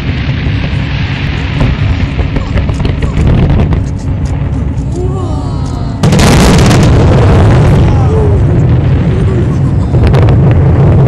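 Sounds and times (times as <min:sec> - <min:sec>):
loud firework blast: 0:00.0 - 0:04.9, 0:05.9 - 0:11.0
fireworks booming and crackling: 0:00.0 - 0:11.0.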